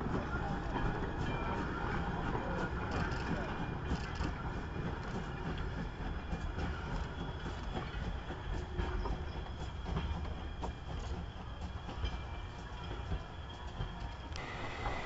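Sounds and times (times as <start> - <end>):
goods train rumbling along track: 0.0 - 15.0.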